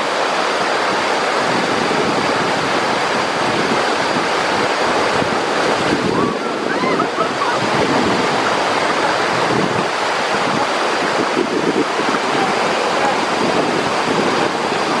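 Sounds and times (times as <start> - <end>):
whitewater rushing over rocks: 0.0 - 15.0.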